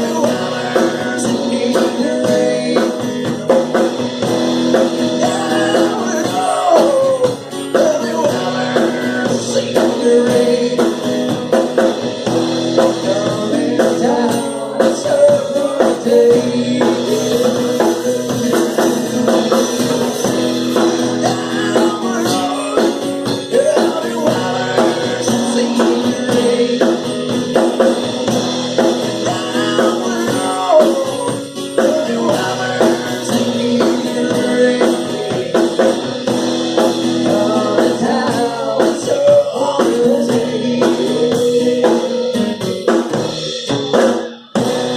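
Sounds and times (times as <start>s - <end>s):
person singing: 0.0s - 4.0s, 4.7s - 28.1s, 28.7s - 36.2s, 36.8s - 44.4s
drum kit: 0.0s - 44.9s
guitar: 0.0s - 44.9s.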